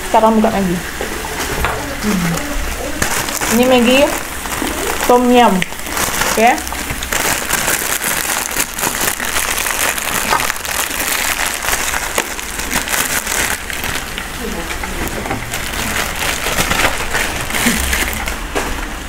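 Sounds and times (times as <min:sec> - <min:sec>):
meat sizzling on a grill: 0:00.1 - 0:17.8.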